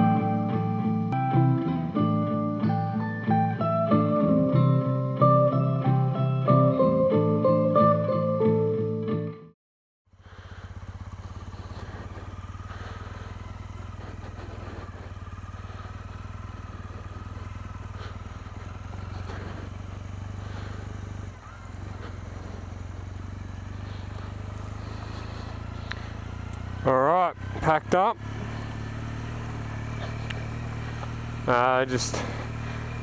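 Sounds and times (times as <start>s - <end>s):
motorcycle engine idling: 0.0s - 6.8s, 10.1s - 33.0s.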